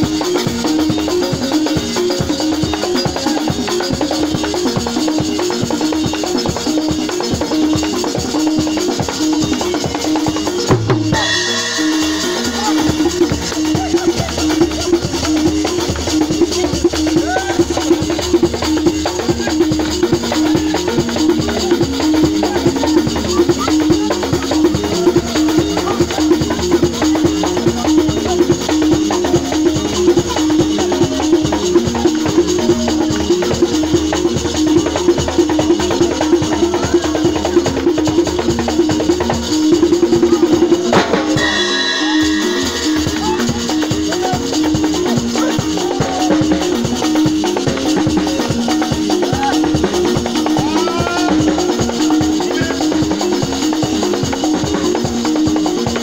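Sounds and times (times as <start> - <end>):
drums beaten in fast rhythm: 0.0 - 56.0
repeating melodic line: 0.0 - 56.0.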